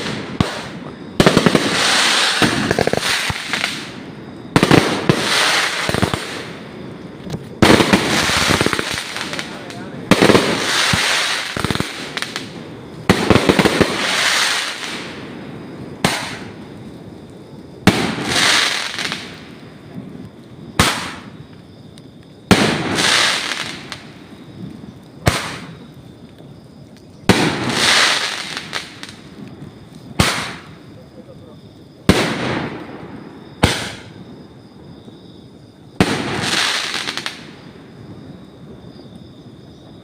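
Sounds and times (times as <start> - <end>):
firework bangs: 0.0 - 17.2, 17.8 - 21.5, 22.5 - 26.0, 27.2 - 31.4, 32.0 - 34.9, 35.9 - 38.9
firework crackling: 0.0 - 40.0.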